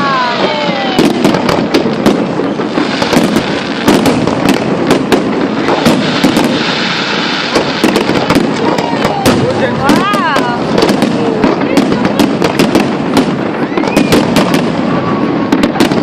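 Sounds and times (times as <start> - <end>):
fireworks bangs and cracks: 0.0 - 16.0
rumble of fireworks bursts: 0.0 - 16.0.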